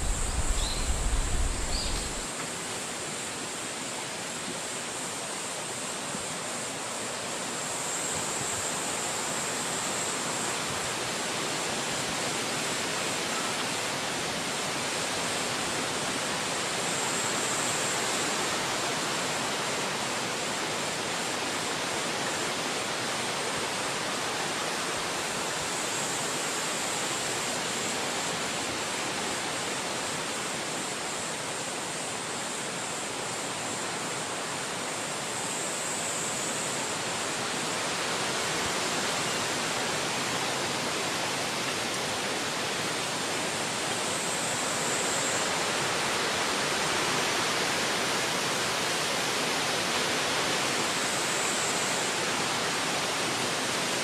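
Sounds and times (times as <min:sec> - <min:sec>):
wind through forest trees: 0:00.0 - 0:54.0.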